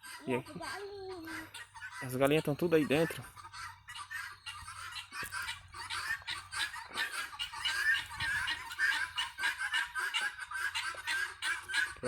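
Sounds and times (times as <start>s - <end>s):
guinea fowl calling: 0.0s - 12.0s.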